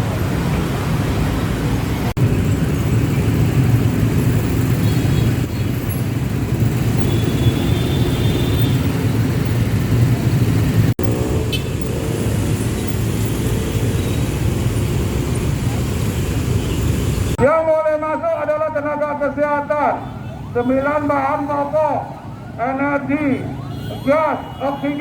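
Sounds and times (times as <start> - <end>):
idling traffic rumble: 0.0 - 25.0.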